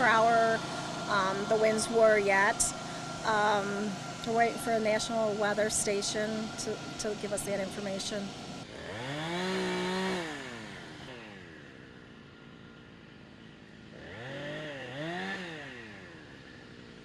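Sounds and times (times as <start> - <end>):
chainsaw revving: 0.0 - 11.8, 13.9 - 17.0.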